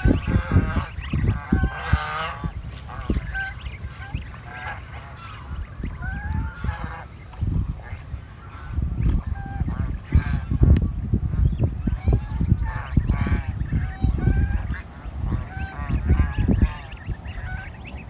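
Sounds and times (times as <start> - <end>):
geese honking: 0.0 - 10.7, 11.3 - 18.0.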